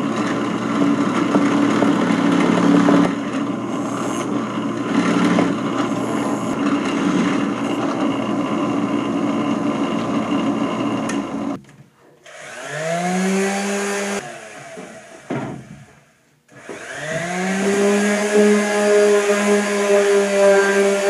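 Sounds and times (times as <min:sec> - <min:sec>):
drill press drilling wood: 0:00.0 - 0:11.6, 0:12.2 - 0:21.0
electric sander whine: 0:00.2 - 0:11.6, 0:12.3 - 0:15.3, 0:16.6 - 0:21.0.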